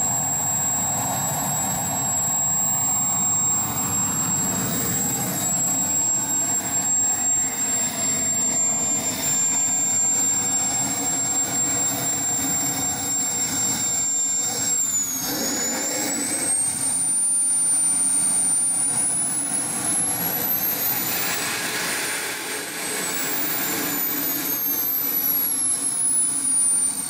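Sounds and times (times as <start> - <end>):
jet turbine whine: 0.0 - 27.0
rushing exhaust noise: 0.0 - 27.0.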